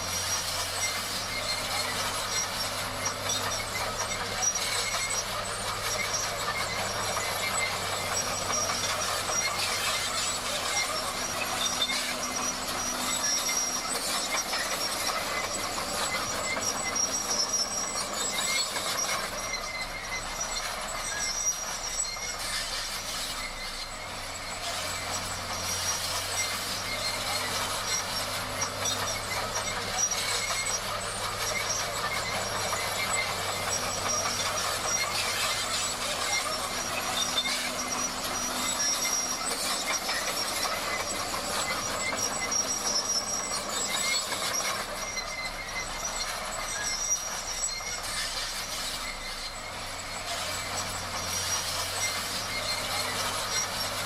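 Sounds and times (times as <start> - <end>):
bulldozer engine running: 0.0 - 54.0
steel tracks clattering and squeaking: 0.0 - 54.0
thin high squealing tones: 0.0 - 54.0.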